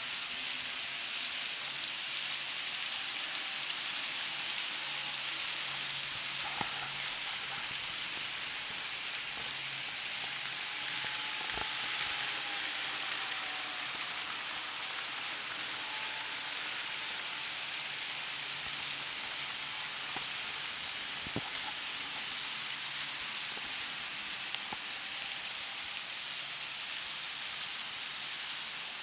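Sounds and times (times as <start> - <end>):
faint wavering whine: 0.0 - 29.0
model train hiss: 0.0 - 29.0.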